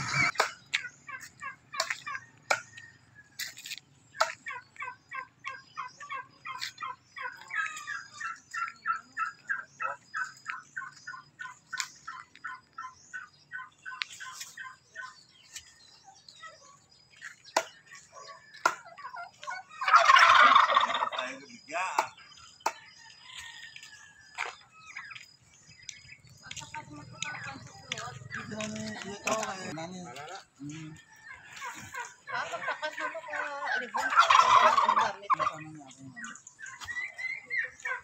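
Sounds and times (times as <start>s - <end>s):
turkeys calling: 0.0s - 38.0s.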